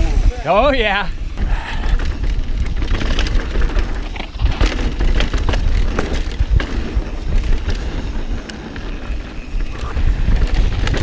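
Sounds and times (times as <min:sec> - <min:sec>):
bike tyres rumbling on dirt: 0:00.0 - 0:11.0
bike rattling over rocks: 0:00.4 - 0:11.0.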